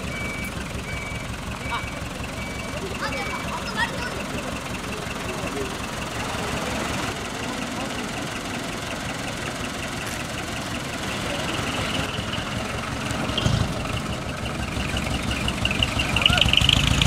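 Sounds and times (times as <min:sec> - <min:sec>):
truck engine running low: 0:00.0 - 0:17.0.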